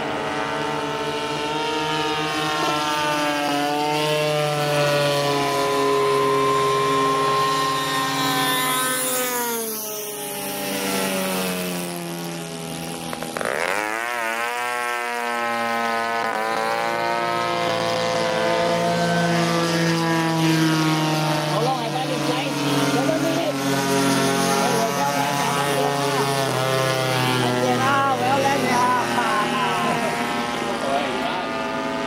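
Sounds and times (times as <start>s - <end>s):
model plane engine flying past: 0.0s - 32.0s.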